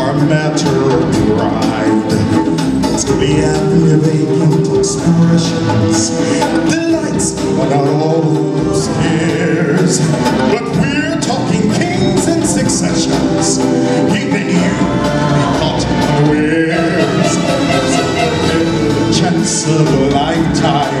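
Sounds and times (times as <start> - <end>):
amplified band music: 0.0 - 21.0
person singing into a microphone: 0.0 - 21.0.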